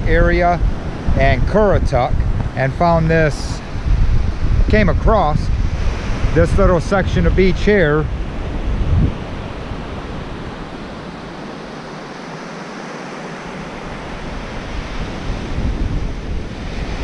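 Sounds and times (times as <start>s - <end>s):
wind buffeting microphone: 0.0s - 12.8s, 13.4s - 17.0s
ocean surf on beach: 0.0s - 17.0s.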